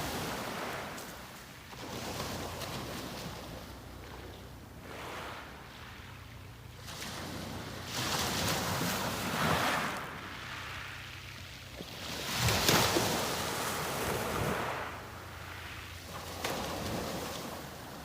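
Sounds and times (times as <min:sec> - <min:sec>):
sea waves breaking on beach: 0:00.0 - 0:18.0.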